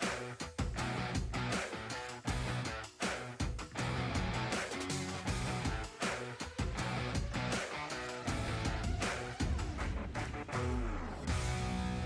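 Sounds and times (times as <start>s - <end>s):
steady drum beat: 0.0s - 10.2s
guitar: 0.0s - 12.0s.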